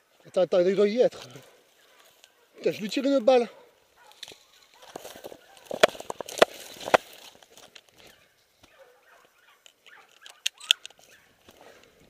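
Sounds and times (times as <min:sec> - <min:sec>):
brush rustling against camera: 0:00.2 - 0:12.0.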